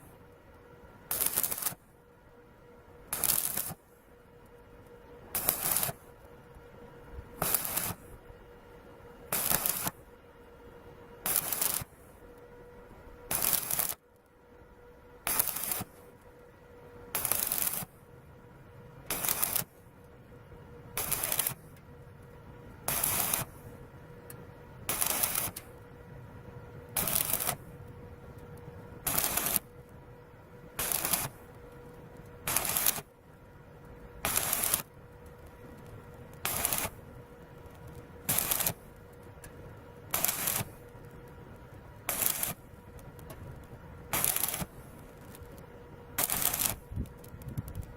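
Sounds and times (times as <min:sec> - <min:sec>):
welder arc crackling: 0:00.0 - 0:01.8, 0:03.0 - 0:14.4, 0:15.2 - 0:47.9
faint steady hum: 0:00.0 - 0:47.9.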